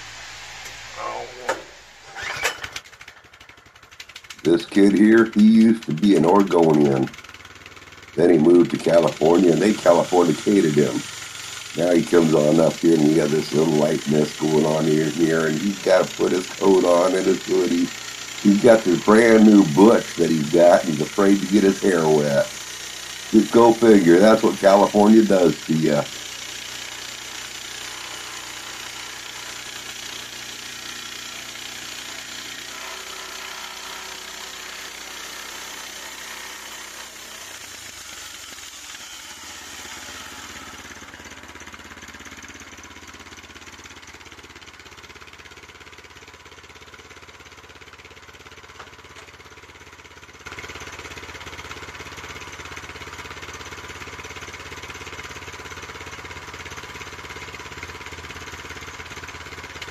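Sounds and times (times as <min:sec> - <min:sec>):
gasoline engine running: 0:00.0 - 0:32.4, 0:37.7 - 0:59.9.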